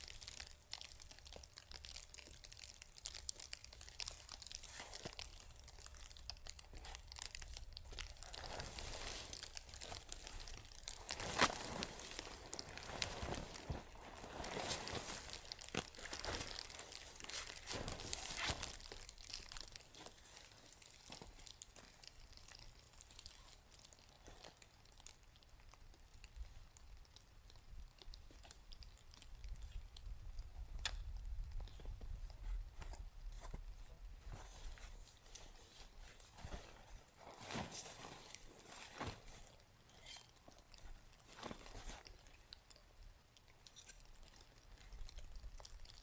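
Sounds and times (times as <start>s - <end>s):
crunching and crinkling handling noise: 0.0s - 46.0s.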